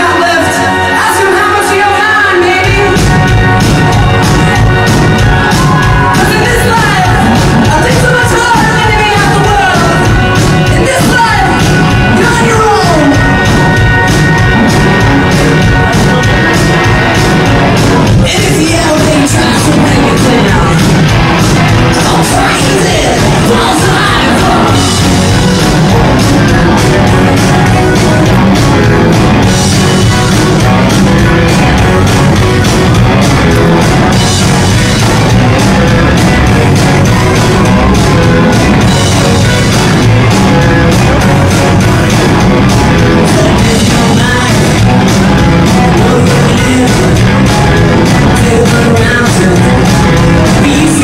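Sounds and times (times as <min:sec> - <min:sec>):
live rock band with singing: 0:00.0 - 0:51.0.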